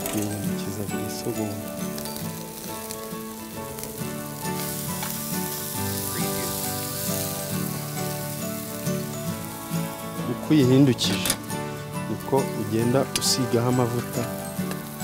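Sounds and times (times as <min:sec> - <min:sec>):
background music: 0:00.0 - 0:15.0
fish sizzling over charcoal: 0:00.0 - 0:15.0.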